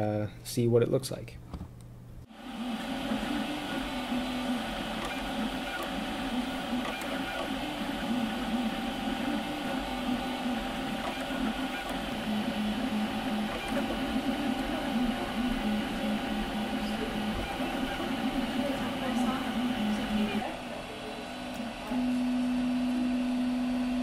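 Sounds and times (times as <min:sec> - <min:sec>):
steady hum: 0:01.3 - 0:24.0
stepper motors whirring: 0:02.6 - 0:23.1.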